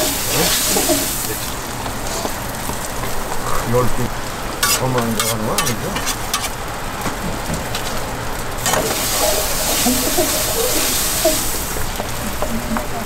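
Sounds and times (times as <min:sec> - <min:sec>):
cooking utensils clattering: 0:00.0 - 0:03.4, 0:04.5 - 0:08.0, 0:08.6 - 0:13.0
toast sizzling on a hot griddle: 0:00.0 - 0:03.4, 0:04.0 - 0:13.0.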